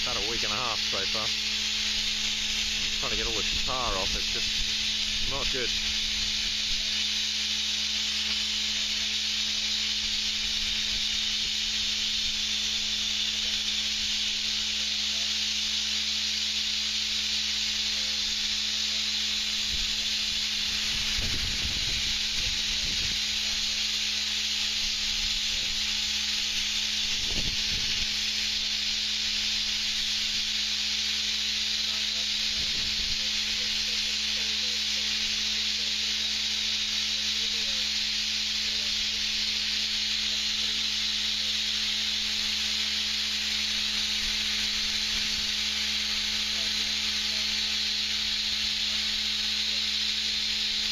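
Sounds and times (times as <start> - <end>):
blasting nozzle hissing: 0.0 - 50.9
low machine hum: 0.0 - 50.9.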